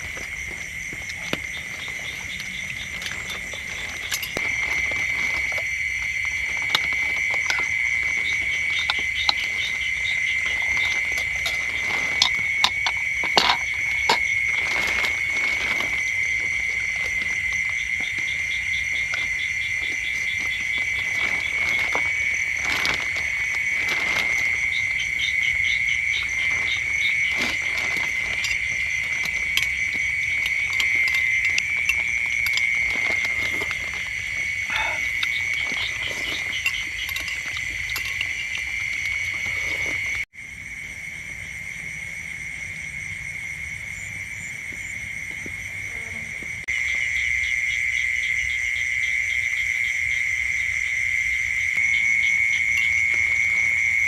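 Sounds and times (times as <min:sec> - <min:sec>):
frogs and insects calling: 0:00.0 - 0:54.0.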